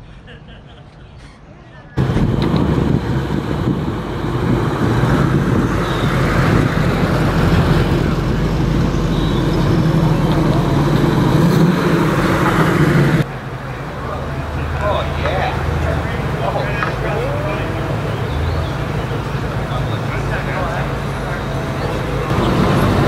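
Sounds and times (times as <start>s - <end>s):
car engines driving past: 2.0s - 23.0s.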